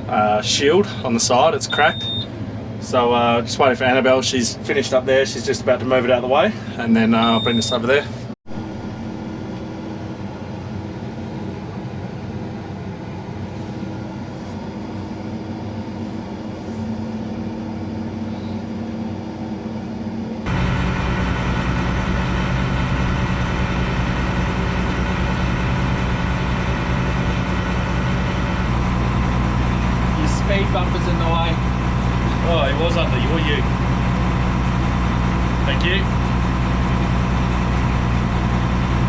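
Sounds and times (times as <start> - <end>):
combine harvester engine humming: 0.0 - 39.0.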